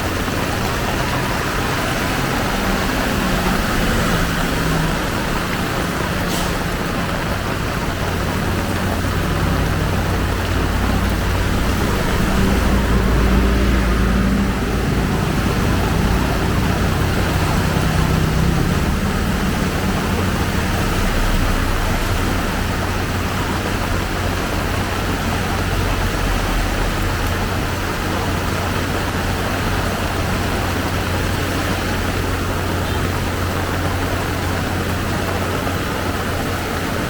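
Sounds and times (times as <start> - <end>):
heavy rain falling: 0.0 - 37.0
vehicle engine humming: 0.0 - 37.0.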